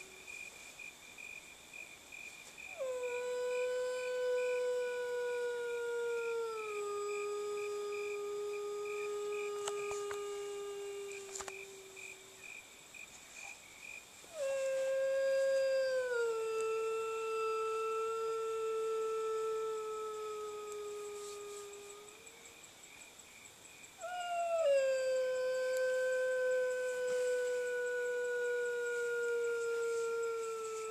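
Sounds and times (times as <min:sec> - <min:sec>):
woman imitating wolf howl: 0:02.7 - 0:12.4, 0:14.3 - 0:22.5, 0:24.0 - 0:30.9.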